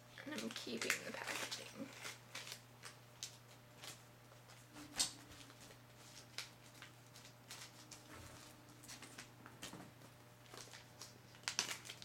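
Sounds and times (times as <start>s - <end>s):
faint steady hum: 0.0s - 12.0s
packet crinkling and clicks: 0.3s - 4.0s, 5.0s - 9.8s, 10.4s - 12.0s.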